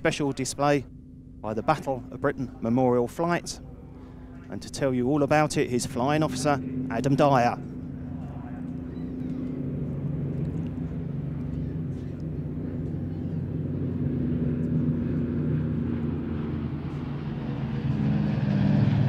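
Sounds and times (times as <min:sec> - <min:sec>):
propeller aircraft engines droning: 0:00.0 - 0:19.0.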